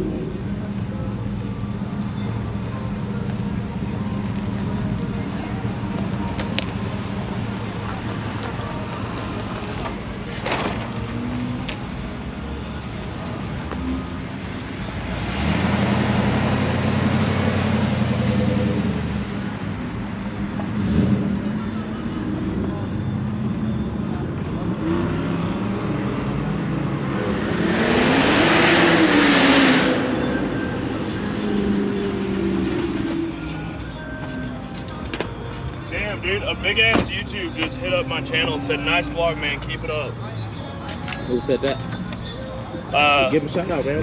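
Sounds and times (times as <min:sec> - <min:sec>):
car engines running: 0:00.0 - 0:44.0.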